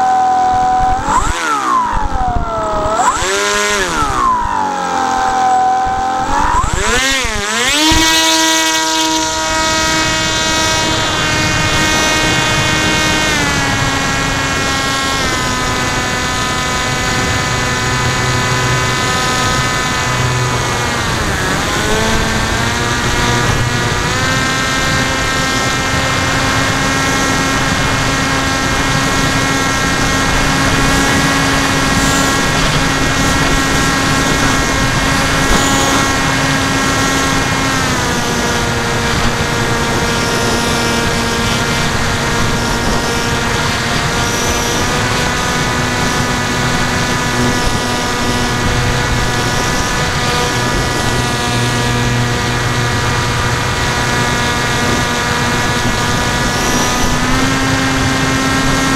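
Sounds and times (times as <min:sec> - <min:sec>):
electric motor whining hum: 0:00.0 - 0:58.9.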